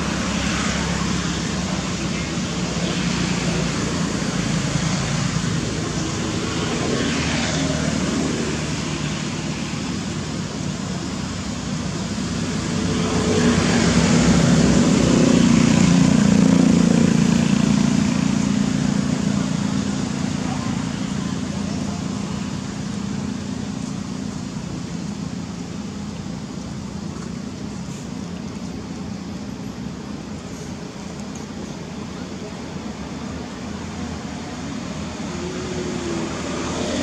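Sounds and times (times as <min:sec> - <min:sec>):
outdoor background rumble: 0:00.0 - 0:37.0.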